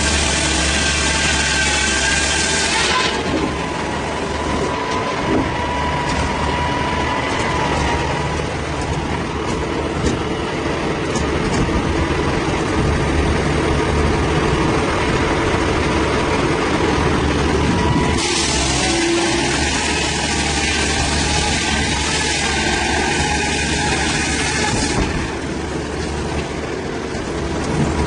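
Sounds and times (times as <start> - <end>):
heavy engine running: 0.0 - 28.0.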